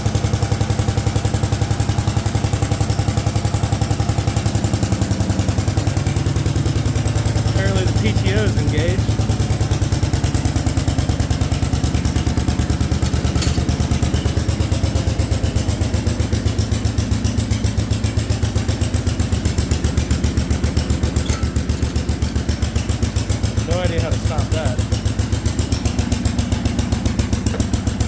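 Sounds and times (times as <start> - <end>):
garden tractor engine running: 0.0 - 28.0.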